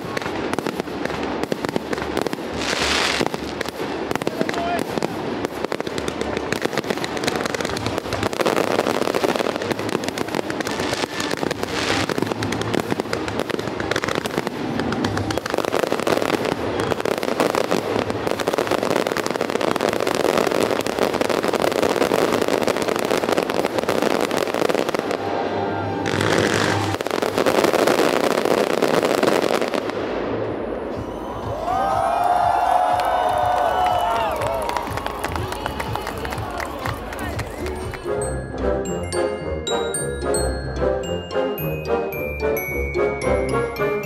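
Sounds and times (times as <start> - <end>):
fireworks bursting and crackling: 0.0 - 38.4.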